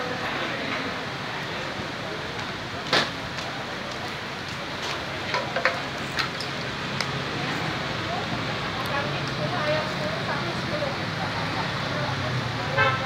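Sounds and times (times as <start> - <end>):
food stall background noise: 0.0 - 13.0.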